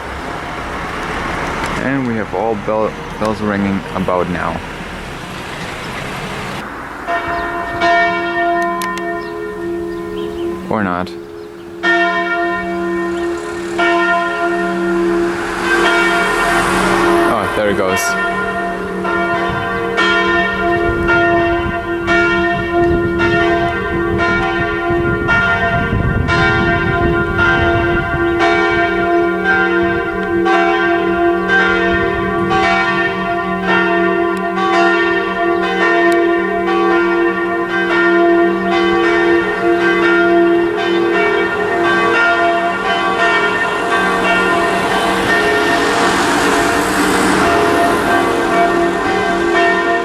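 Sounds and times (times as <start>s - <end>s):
church bells pealing: 0.0s - 50.0s.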